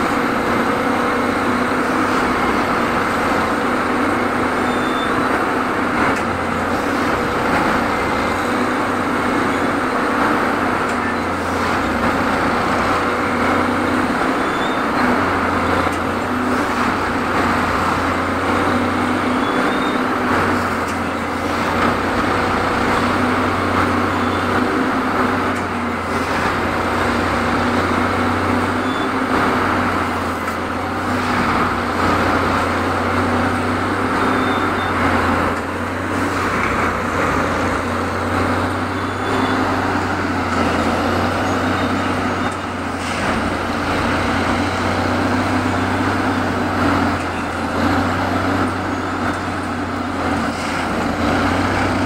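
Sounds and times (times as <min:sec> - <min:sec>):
track tamping machine running: 0:00.0 - 0:52.0.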